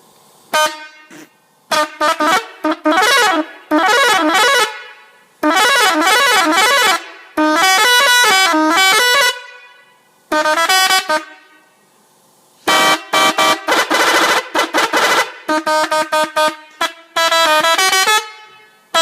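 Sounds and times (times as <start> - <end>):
short horn toots: 0.5 - 11.8, 12.6 - 19.0
multi-note air horn tune: 0.5 - 11.9, 12.6 - 19.0.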